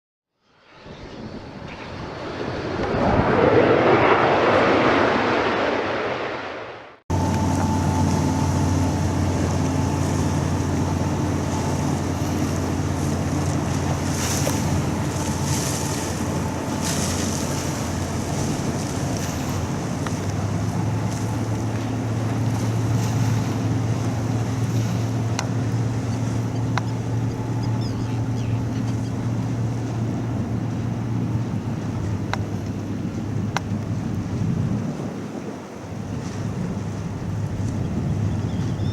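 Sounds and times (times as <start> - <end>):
jet engines at takeoff: 0.4 - 38.9.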